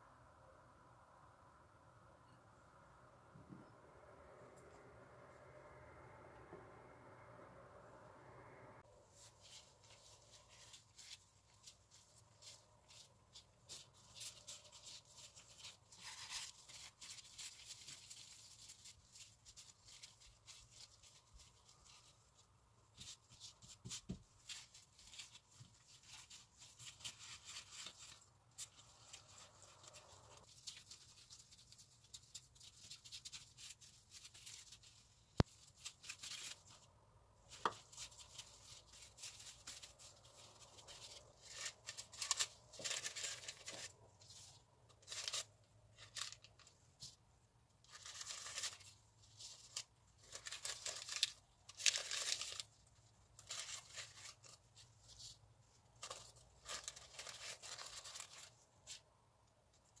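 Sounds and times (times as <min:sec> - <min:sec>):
baking paper crinkling: 0:09.0 - 0:59.2.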